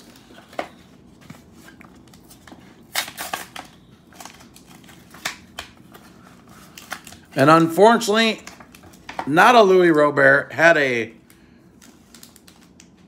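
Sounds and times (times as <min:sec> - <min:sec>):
card pack wrapper crinkling and tearing: 0:00.0 - 0:09.9, 0:11.1 - 0:13.0.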